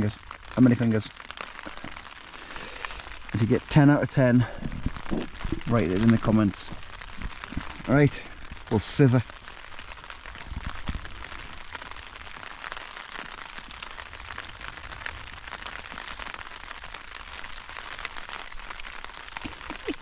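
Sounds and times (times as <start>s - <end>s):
rain on tent flysheet: 0.0s - 20.0s.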